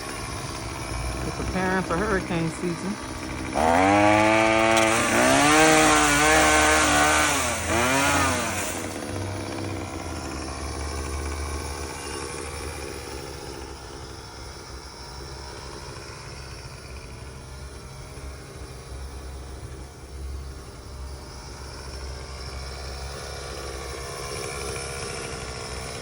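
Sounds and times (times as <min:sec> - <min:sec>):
chainsaw engine running: 0:00.0 - 0:26.0.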